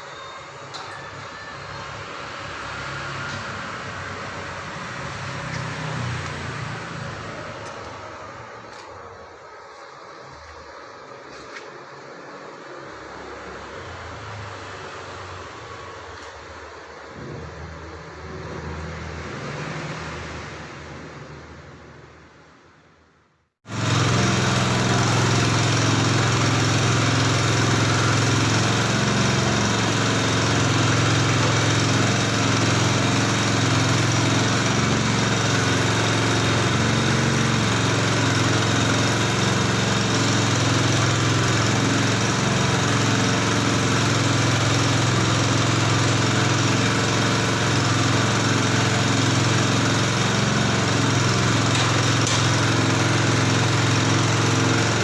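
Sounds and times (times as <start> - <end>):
machine motor humming: 0.4 - 13.5, 23.7 - 55.0.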